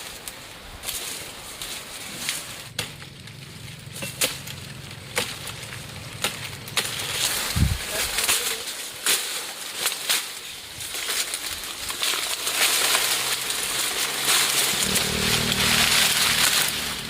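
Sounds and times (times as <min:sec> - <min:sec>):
blade chopping sugarcane: 0:02.3 - 0:17.0.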